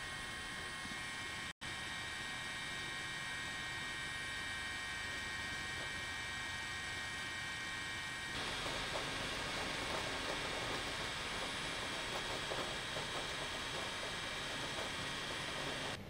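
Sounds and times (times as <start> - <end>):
helicopter cabin drone: 0.0 - 16.0.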